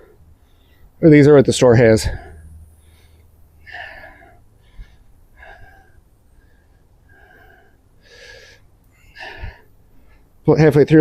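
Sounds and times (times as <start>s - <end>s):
man breathing through nose: 0.0s - 1.0s, 2.0s - 10.4s.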